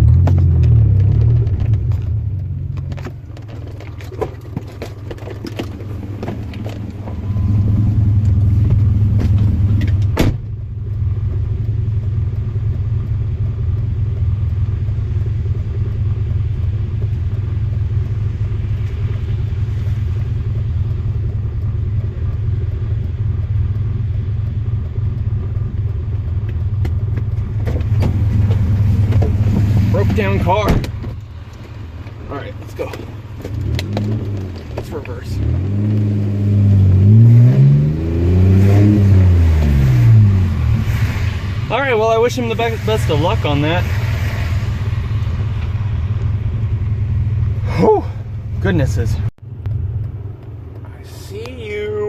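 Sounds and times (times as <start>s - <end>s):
car engine and road rumble: 0.0s - 52.0s.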